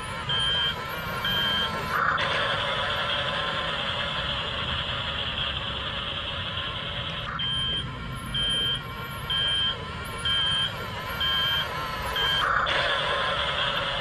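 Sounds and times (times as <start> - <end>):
reversing alarm beeps: 0.0 - 14.0.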